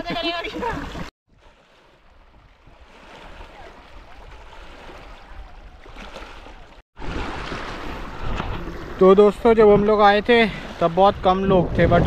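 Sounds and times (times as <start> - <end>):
wind on microphone: 2.1 - 12.0.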